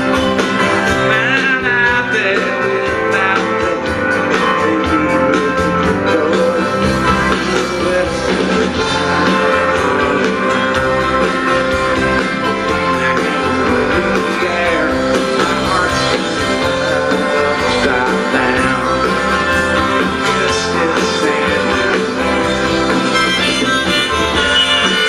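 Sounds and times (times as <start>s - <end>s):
drums: 0.0s - 25.0s
electric bass: 0.0s - 25.0s
person singing: 0.0s - 25.0s
strummed acoustic guitar: 0.0s - 25.0s.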